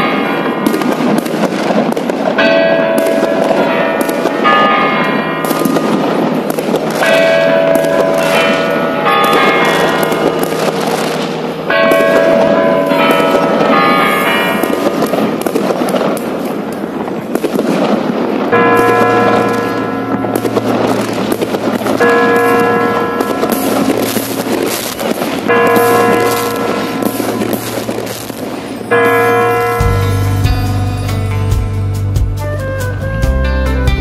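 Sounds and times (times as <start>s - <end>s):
bells ringing: 0.0s - 1.1s, 2.4s - 15.6s, 18.2s - 32.2s
fireworks crackling and popping: 0.0s - 32.9s.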